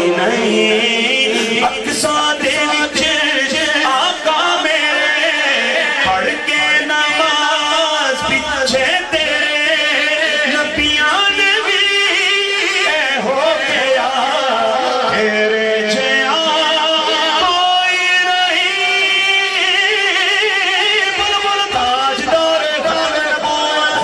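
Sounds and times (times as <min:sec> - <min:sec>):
man singing through loudspeakers: 0:00.0 - 0:24.0.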